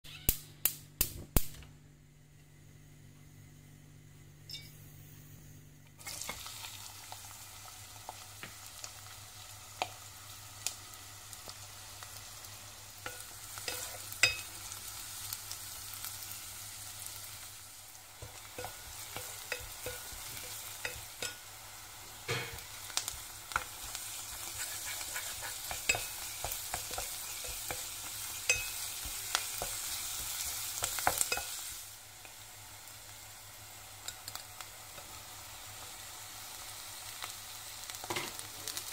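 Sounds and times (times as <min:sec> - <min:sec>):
onions sizzling in oil: 0:04.5 - 0:38.9.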